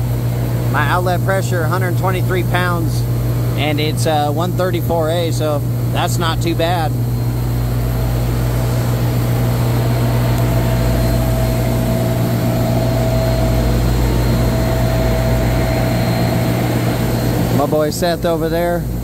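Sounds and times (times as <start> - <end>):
recovery machine humming: 0.0 - 19.0.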